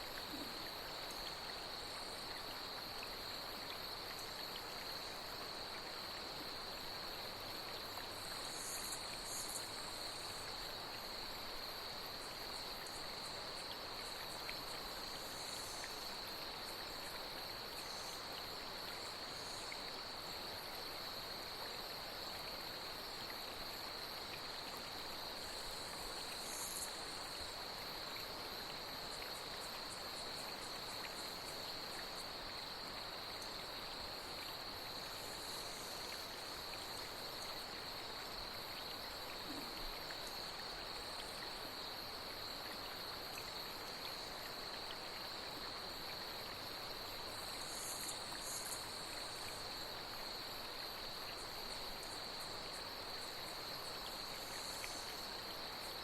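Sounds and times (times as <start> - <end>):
flowing water: 0.0 - 56.0
night insect chorus trilling: 0.0 - 56.0.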